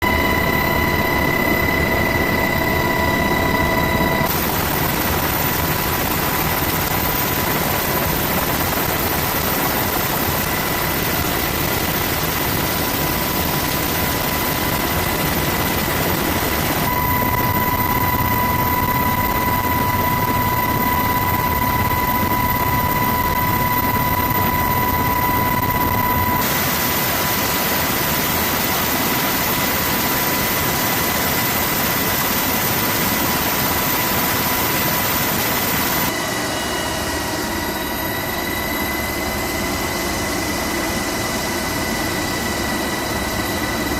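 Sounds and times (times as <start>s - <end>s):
military turbine aircraft in flight: 0.0s - 43.9s.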